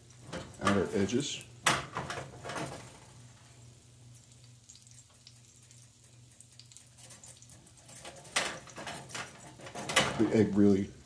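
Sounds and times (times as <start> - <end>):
food sizzling with crackles: 0.0 - 11.0.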